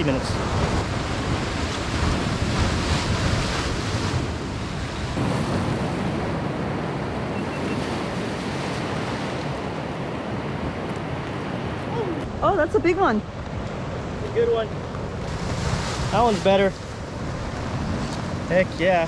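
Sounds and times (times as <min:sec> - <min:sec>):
wind on microphone: 0:00.0 - 0:18.8
surf washing over rocks: 0:00.0 - 0:19.0.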